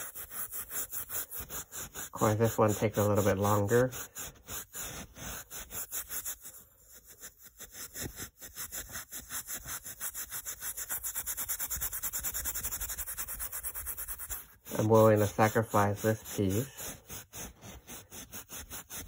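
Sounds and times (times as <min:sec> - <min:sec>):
steel wool scrubbing metal: 0:00.0 - 0:19.0.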